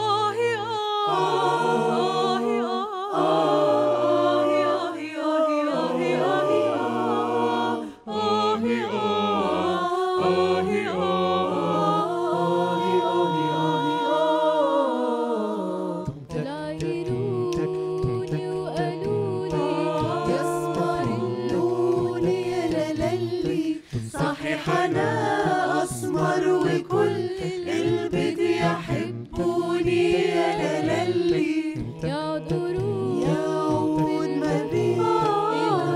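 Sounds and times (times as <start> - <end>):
mixed choir singing a cappella: 0.0 - 35.9.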